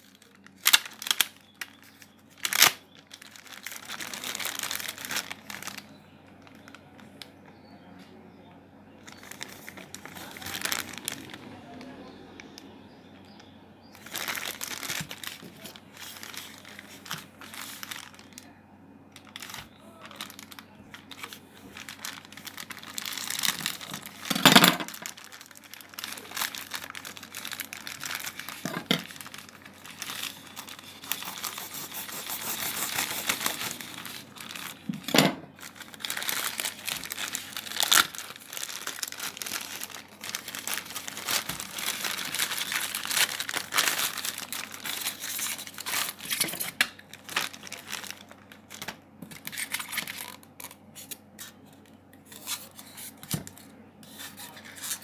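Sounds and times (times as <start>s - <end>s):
plastic bag crinkling and tearing: 0.0s - 7.5s, 9.0s - 12.6s, 13.2s - 55.0s.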